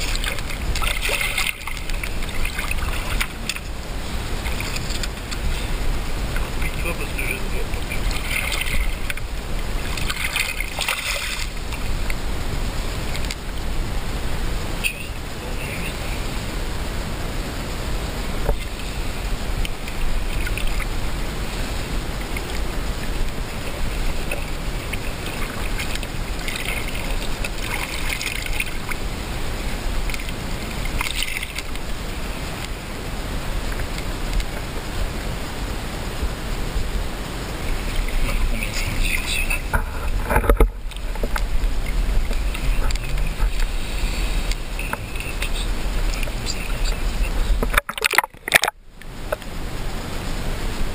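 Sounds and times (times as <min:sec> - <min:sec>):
river water running and sloshing: 0:00.0 - 0:50.9
steady low rumble: 0:00.0 - 0:50.9
water splashes: 0:00.0 - 0:50.9.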